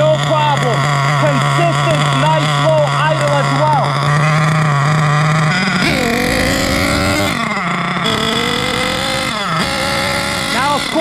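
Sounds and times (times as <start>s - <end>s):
small buzzing model engine: 0.0s - 11.0s.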